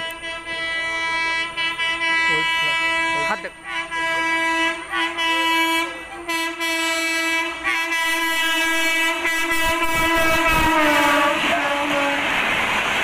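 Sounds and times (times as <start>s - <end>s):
locomotive horn long blasts: 0.0s - 12.4s
train rumble: 0.0s - 13.0s.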